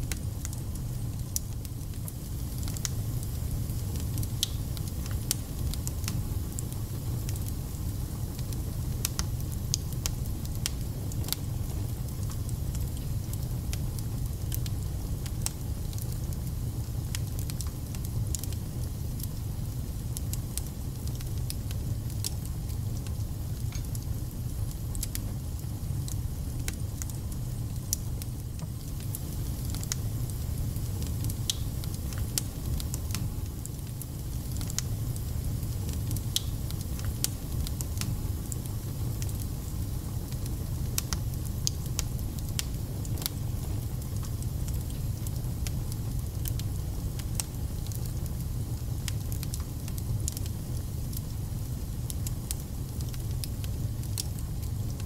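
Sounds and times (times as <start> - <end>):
fire crackling and spitting: 0.0 - 55.0
fire low rumble: 0.0 - 55.0.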